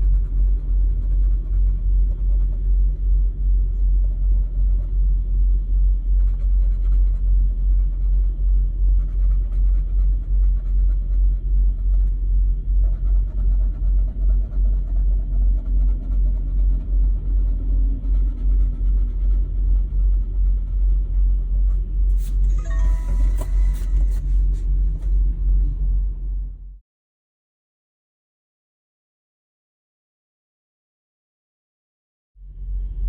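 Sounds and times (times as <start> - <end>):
pulsing low rumble: 0.0 - 26.8, 32.4 - 33.0.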